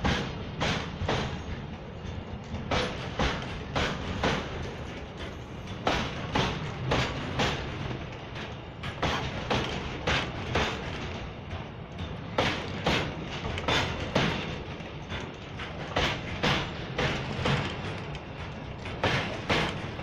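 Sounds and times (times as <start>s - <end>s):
train wheels clacking over rail joints: 0.0s - 20.0s.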